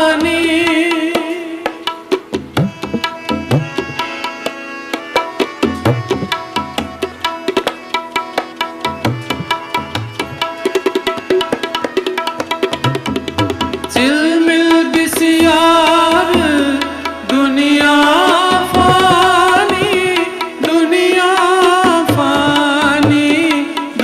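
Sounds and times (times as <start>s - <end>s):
harmonium melody: 0.0s - 24.0s
tabla playing fast rhythm: 0.0s - 24.0s.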